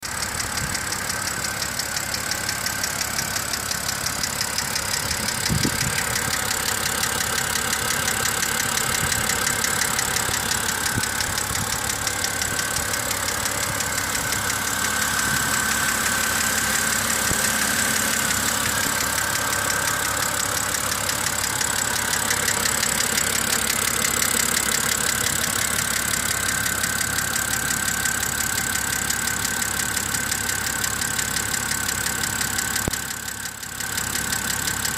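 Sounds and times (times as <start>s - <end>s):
car engine idling with ticking: 0.0s - 34.9s.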